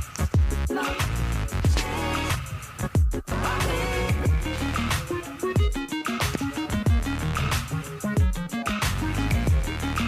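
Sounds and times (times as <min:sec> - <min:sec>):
bass and synth line: 0:00.0 - 0:10.0.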